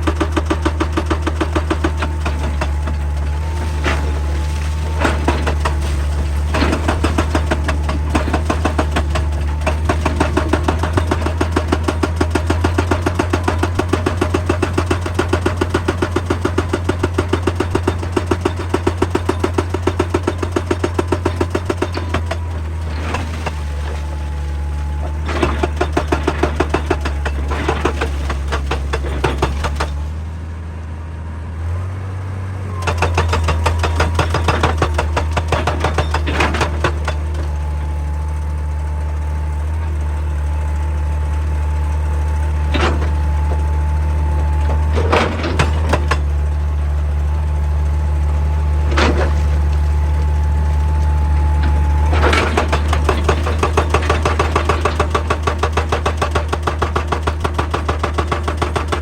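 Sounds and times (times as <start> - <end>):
hydraulic rock breaker hammering: 0.0 - 30.2, 32.8 - 59.0
excavator engine drone: 0.0 - 59.0.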